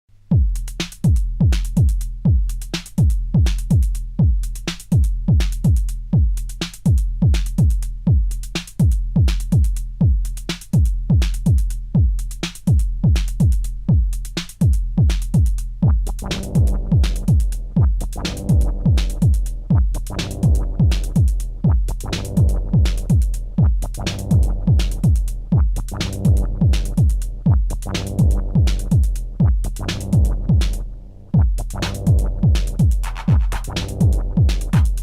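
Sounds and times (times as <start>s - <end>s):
techno kick drum beat: 0.2s - 35.0s
deep bass: 0.3s - 35.0s.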